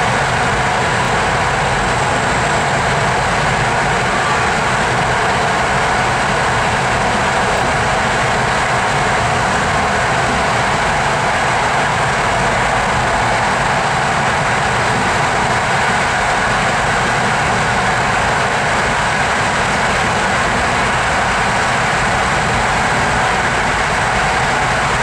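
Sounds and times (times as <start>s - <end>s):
train carriage rolling rush: 0.0s - 25.0s.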